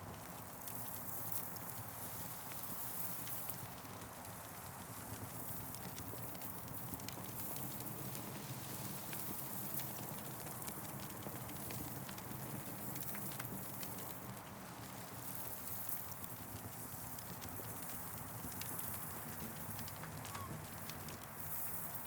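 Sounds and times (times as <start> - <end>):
campfire crackling and popping: 0.1 - 22.0.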